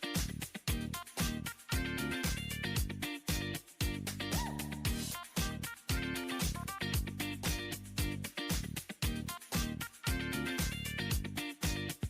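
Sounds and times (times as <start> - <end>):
kick drum beat: 0.2 - 12.0.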